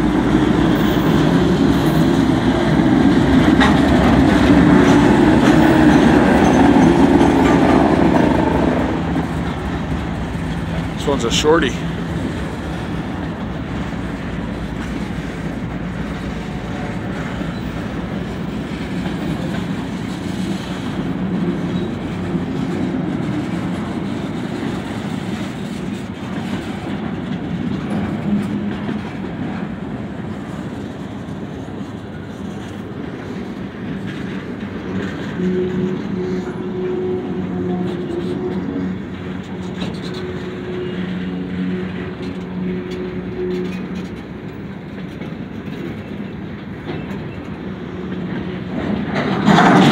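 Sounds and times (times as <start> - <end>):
train wheels rolling on rails: 0.0 - 49.9.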